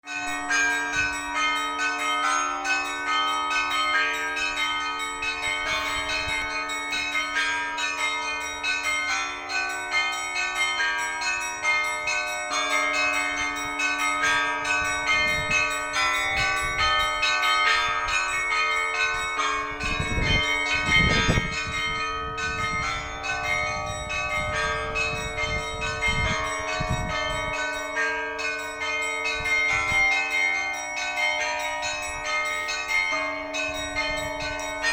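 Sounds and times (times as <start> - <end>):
small church bells ringing: 0.0 - 34.9
large bells humming: 0.1 - 34.9.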